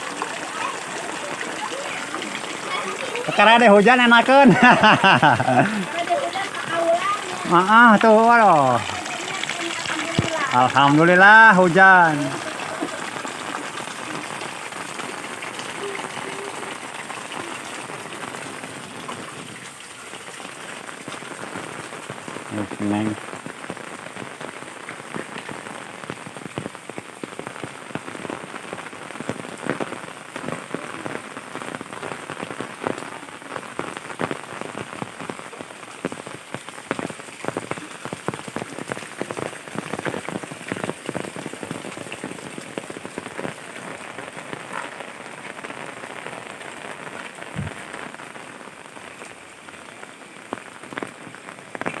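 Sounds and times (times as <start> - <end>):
heavy rain hissing: 0.0 - 52.0
raindrops tapping surfaces: 0.0 - 52.0.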